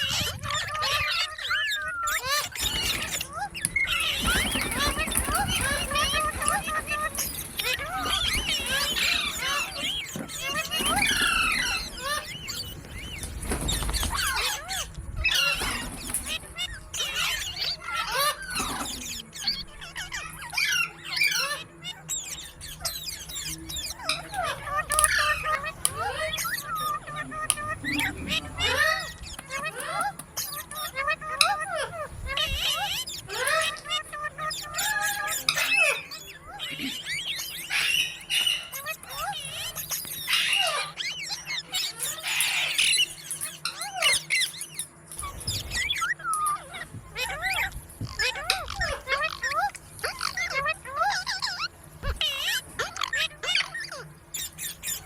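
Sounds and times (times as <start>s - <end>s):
parrots chirping and squawking: 0.0s - 55.0s.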